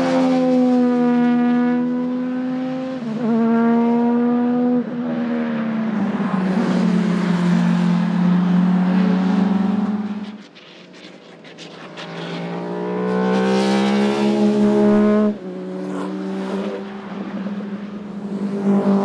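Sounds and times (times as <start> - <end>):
race car engine at high revs: 0.0 - 10.6, 11.6 - 19.0.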